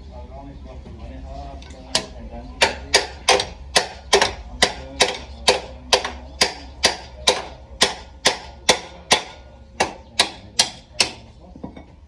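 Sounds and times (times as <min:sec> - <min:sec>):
hammer striking metal: 0:01.6 - 0:11.4.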